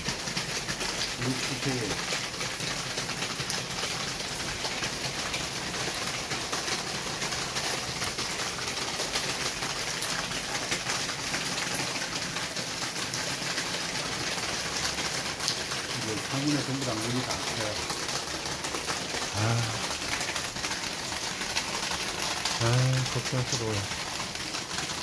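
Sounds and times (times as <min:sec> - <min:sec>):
rain hissing: 0:00.0 - 0:25.0
raindrops pattering on glass: 0:00.0 - 0:25.0.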